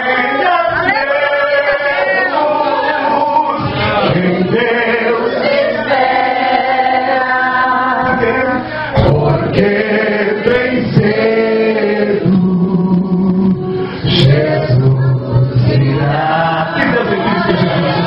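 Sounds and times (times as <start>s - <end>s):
worship singing: 0.0s - 18.0s.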